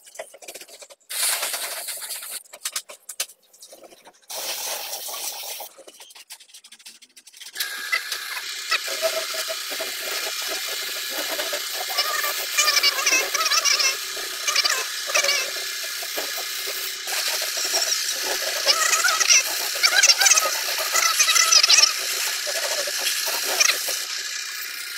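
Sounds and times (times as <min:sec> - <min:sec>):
spray-painting rig hiss and hum: 0:01.1 - 0:02.4, 0:04.3 - 0:05.7, 0:07.6 - 0:24.9.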